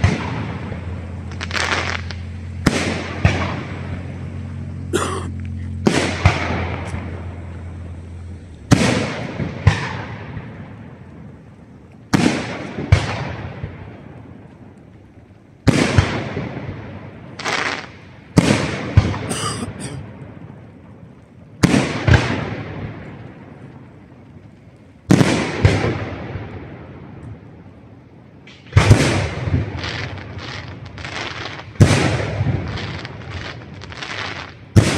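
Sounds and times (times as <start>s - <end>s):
firework bangs: 0.0s - 14.8s, 15.6s - 20.6s, 21.6s - 23.9s, 25.0s - 27.6s, 28.4s - 34.9s
rumbling echo: 0.0s - 30.4s.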